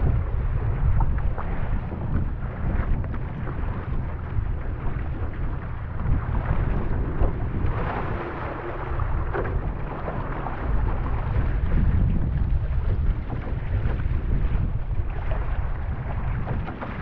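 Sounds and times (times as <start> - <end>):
paddle strokes through water: 0.0 - 17.0
water rushing along a hull: 0.0 - 17.0
wind buffeting the microphone: 0.0 - 17.0.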